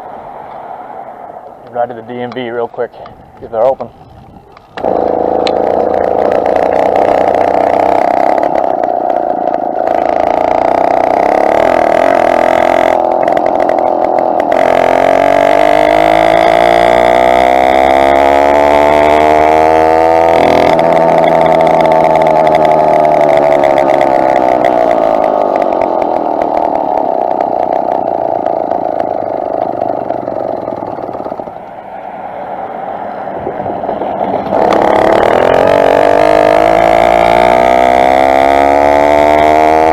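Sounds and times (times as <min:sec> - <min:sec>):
motorized bicycle two-stroke engine: 0:04.2 - 0:31.6, 0:34.2 - 0:39.9.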